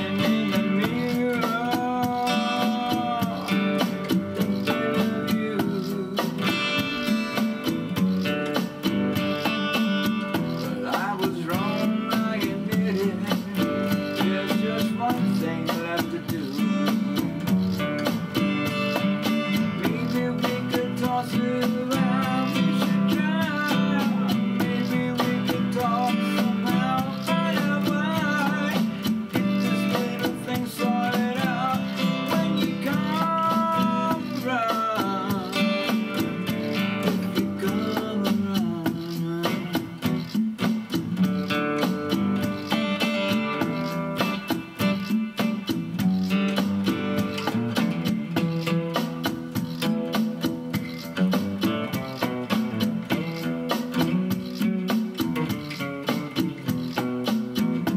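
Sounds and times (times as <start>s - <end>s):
song on strummed acoustic guitar: 0.0s - 57.9s.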